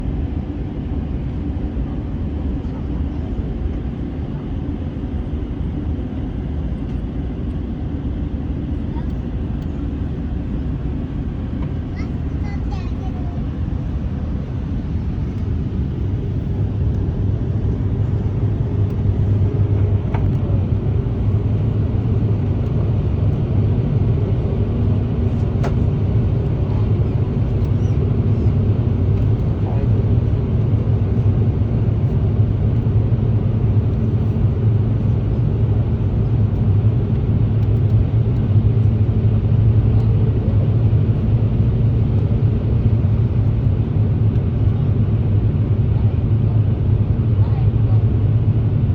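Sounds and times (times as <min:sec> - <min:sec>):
airliner cabin engine drone: 0:00.0 - 0:48.9.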